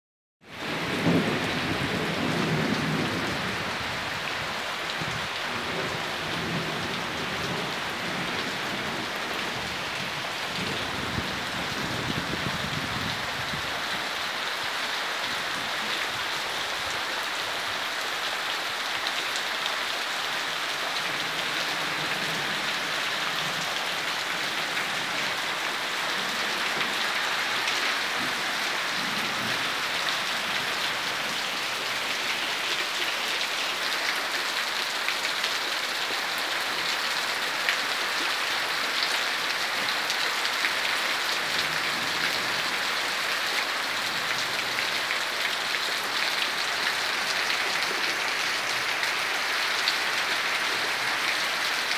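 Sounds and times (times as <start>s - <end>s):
heavy rain pouring: 0.5s - 51.9s.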